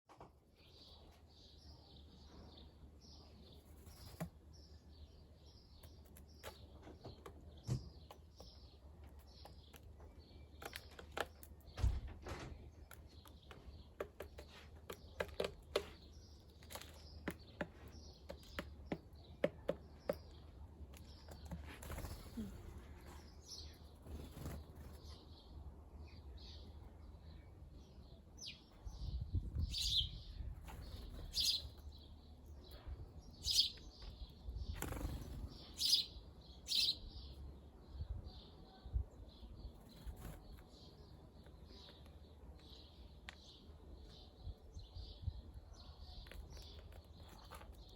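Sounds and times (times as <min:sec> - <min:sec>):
small birds chirping: 0:00.1 - 0:47.9.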